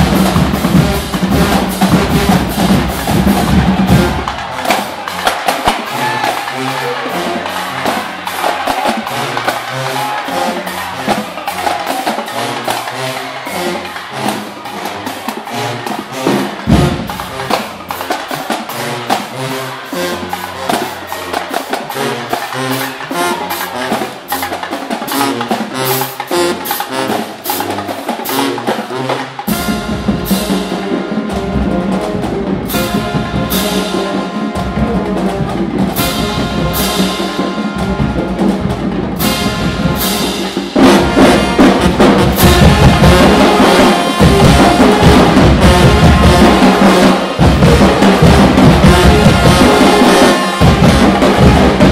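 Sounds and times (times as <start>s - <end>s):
snare and tenor drums: 0.0s - 51.9s.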